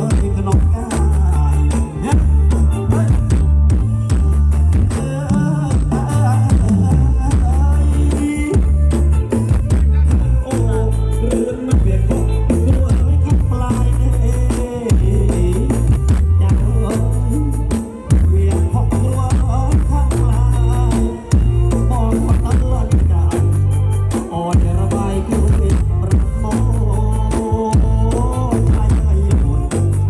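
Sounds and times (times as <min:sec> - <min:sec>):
music with singing and heavy bass: 0:00.0 - 0:30.0.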